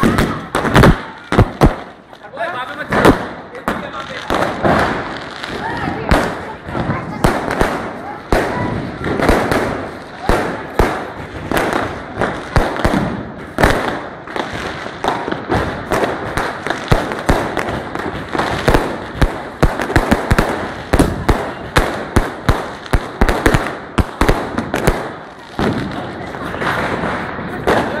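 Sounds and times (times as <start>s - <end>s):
firecrackers banging: 0.0s - 28.0s.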